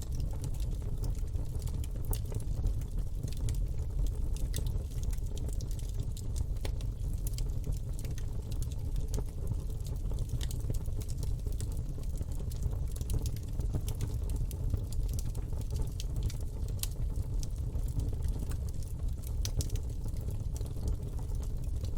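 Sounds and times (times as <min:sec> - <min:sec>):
fire crackling and popping: 0:00.0 - 0:21.9
flames rumbling: 0:00.0 - 0:21.9.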